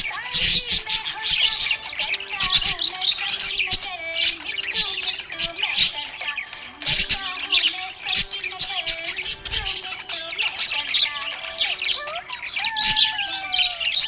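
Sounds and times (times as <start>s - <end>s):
parrot squawks: 0.0s - 14.0s
small parrots chirping: 0.0s - 14.0s.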